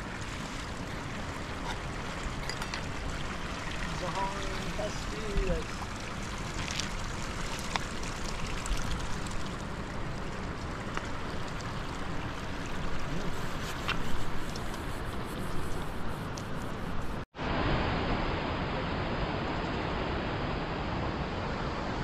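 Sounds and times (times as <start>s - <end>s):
running water rushing: 0.0s - 17.7s.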